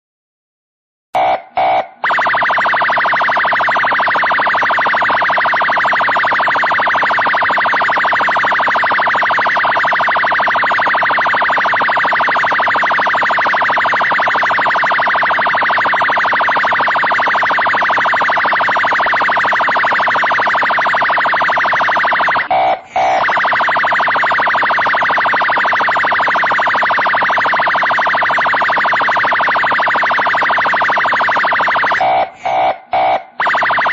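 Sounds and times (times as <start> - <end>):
fast-pulsing siren tone: 1.2 - 33.9
police siren chirps: 1.2 - 33.9.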